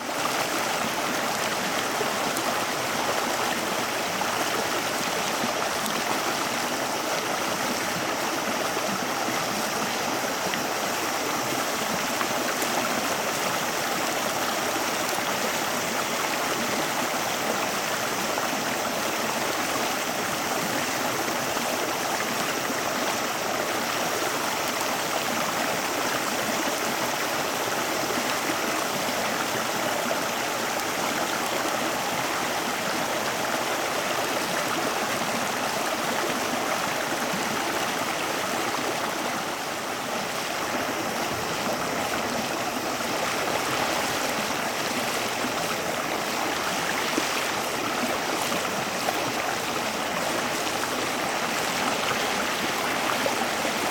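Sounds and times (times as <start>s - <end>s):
flowing stream rushing: 0.0s - 53.9s.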